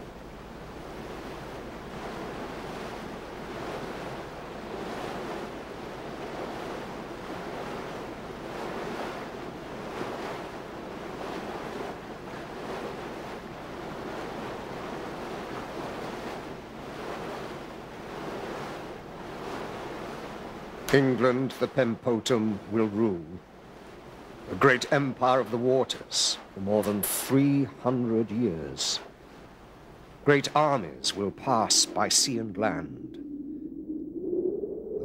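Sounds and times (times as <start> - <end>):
sea waves washing: 0.0 - 35.0
wind: 0.0 - 35.0.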